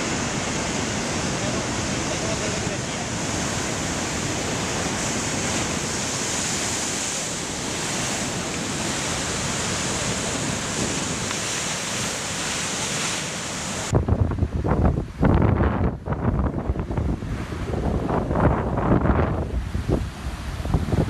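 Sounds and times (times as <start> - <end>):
gusty wind on microphone: 0.0 - 21.0
ocean surf breaking: 0.0 - 21.0.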